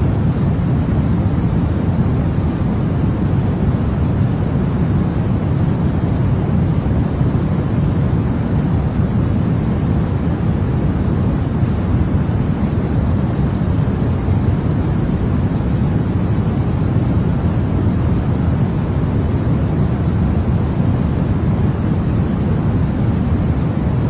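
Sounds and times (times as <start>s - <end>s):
white noise hiss: 0.0s - 24.0s.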